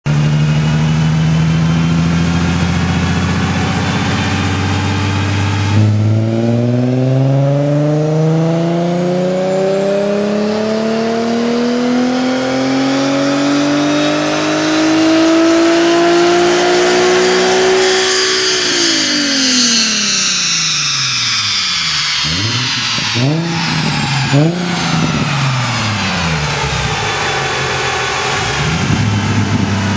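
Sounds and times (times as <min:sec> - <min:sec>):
car exhaust revving: 0:00.0 - 0:29.9.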